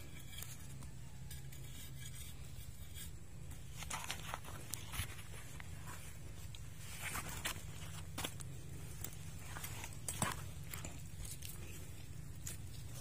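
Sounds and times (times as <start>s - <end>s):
blade scraping dry soil: 0.0s - 13.0s.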